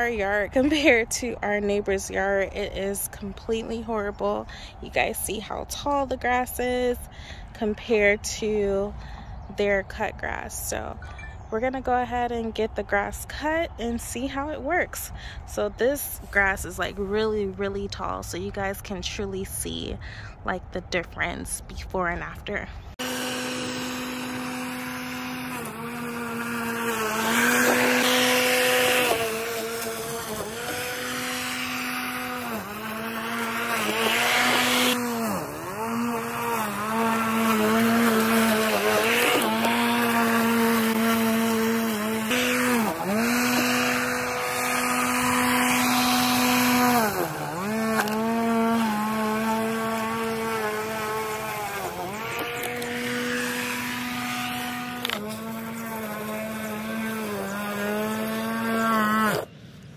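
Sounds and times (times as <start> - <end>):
lawn mower motor hum: 0.0 - 19.9, 21.1 - 59.9
grass cutting rush: 0.0 - 59.9.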